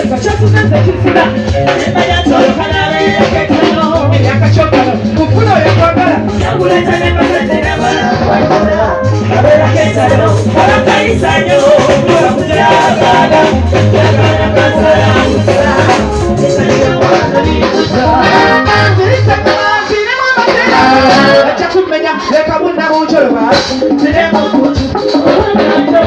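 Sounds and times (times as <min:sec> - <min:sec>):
loud song with pulsing bass: 0:00.0 - 0:26.0.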